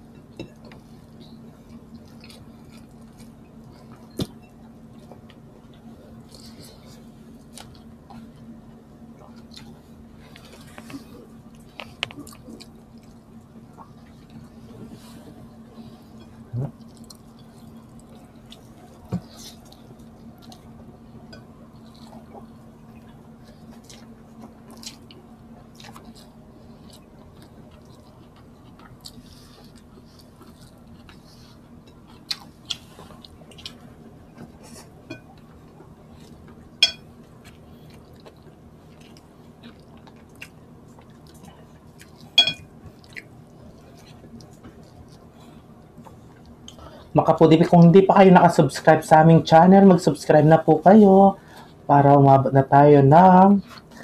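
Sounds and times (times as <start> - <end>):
faint steady hum: 0.0 - 54.0
chewing: 0.4 - 4.3, 5.0 - 8.5, 9.1 - 47.1.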